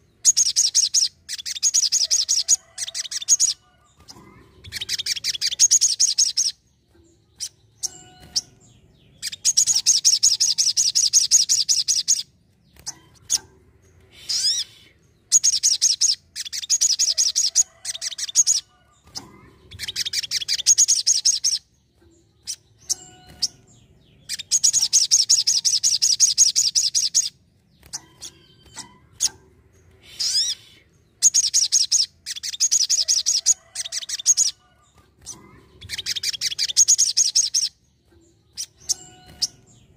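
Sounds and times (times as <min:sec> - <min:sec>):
sunbird trilling song: 0:00.0 - 0:39.9.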